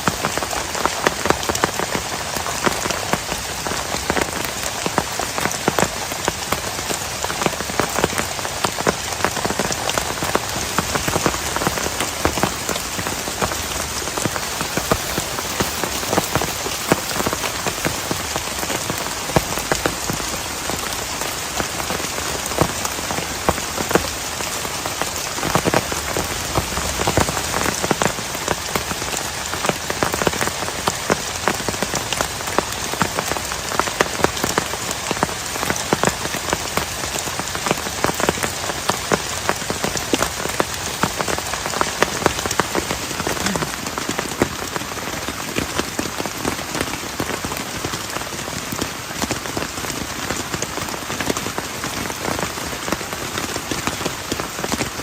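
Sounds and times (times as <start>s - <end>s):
heavy rain falling: 0.0s - 55.0s
raindrops striking a surface: 0.0s - 55.0s.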